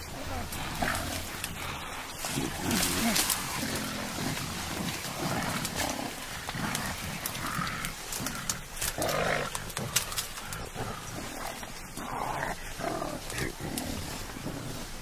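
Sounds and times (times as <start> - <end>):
bamboo stems clicking and rustling: 0.0 - 15.0
gorillas grunting and calling: 0.0 - 15.0.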